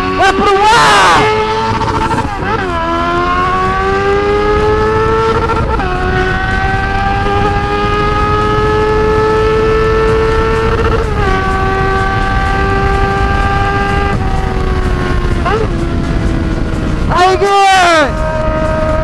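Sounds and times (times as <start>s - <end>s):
motorcycle engine accelerating: 0.0s - 19.0s
wind rush on microphone: 0.0s - 19.0s.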